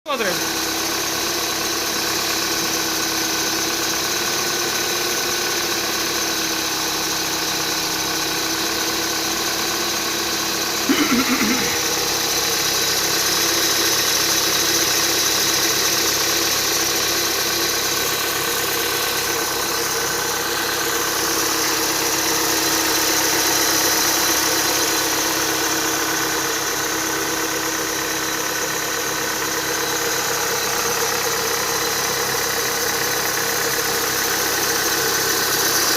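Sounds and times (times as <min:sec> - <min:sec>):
car engine idling: 0:00.1 - 0:35.9.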